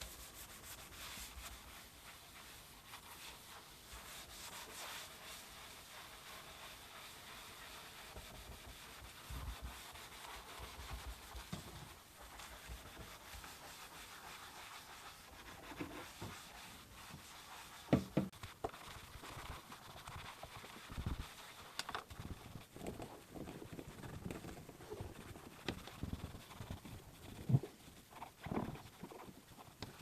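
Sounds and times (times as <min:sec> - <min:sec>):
hands wiping a surface: 0:00.0 - 0:30.0.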